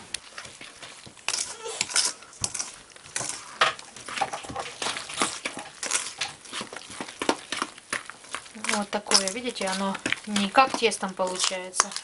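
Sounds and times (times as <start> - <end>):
hand mixing wet mixture in bowl: 0.0 - 12.0.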